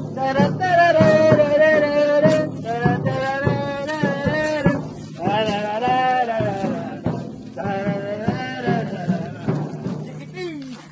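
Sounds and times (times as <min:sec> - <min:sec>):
steady drum beat: 0:00.0 - 0:10.9.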